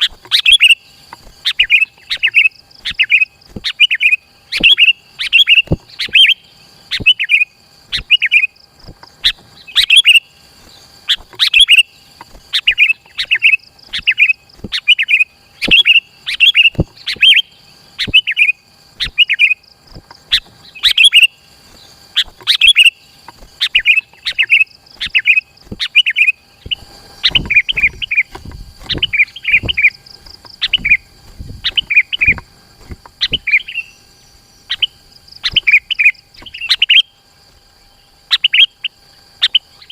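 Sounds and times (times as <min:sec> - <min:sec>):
bulbul singing whistled phrases: 0:00.0 - 0:32.5, 0:33.1 - 0:39.9.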